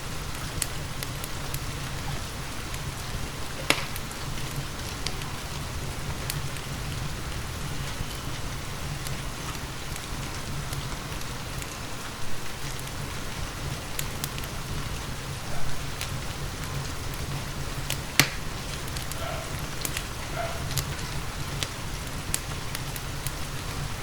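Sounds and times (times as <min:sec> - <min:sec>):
steady rain falling: 0:00.0 - 0:24.0
wood fire crackling and popping: 0:00.0 - 0:24.0.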